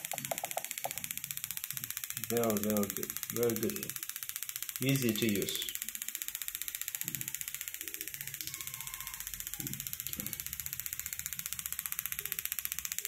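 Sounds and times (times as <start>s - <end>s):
ignition coil sparking snaps: 0.0s - 13.0s.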